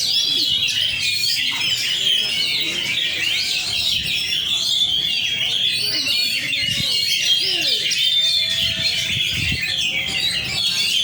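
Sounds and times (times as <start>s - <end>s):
murmur of voices: 0.0s - 11.0s
songbird chirps and trills: 0.0s - 11.0s.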